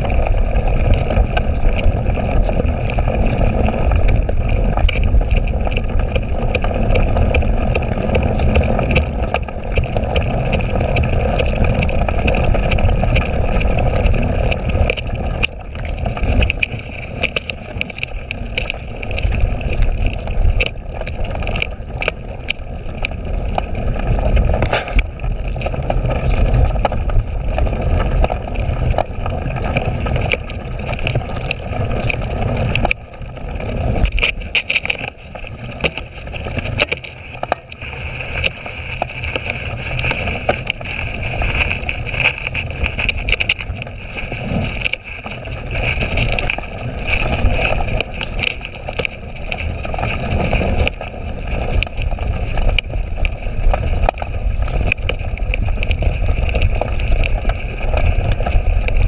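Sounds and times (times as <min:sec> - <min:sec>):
bike clicks and rattles: 0:00.0 - 0:59.0
wind and ground rumble: 0:00.0 - 0:59.0.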